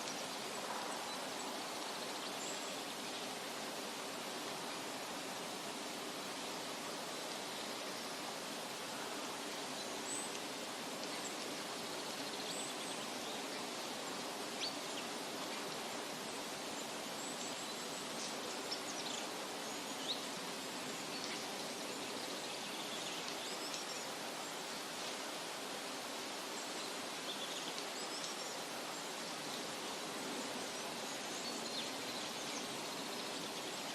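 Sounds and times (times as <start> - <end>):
running water rushing: 0.0 - 33.9.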